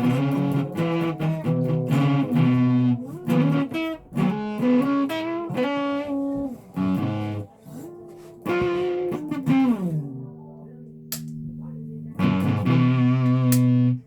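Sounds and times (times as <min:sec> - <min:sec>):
guitar single notes with slides: 0:00.0 - 0:14.0.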